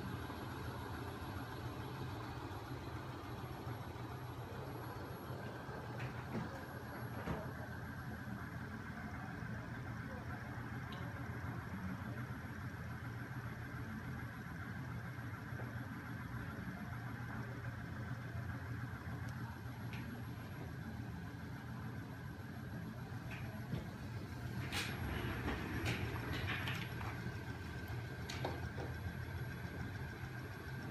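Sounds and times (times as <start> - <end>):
machine humming and whirring: 0.0 - 30.9.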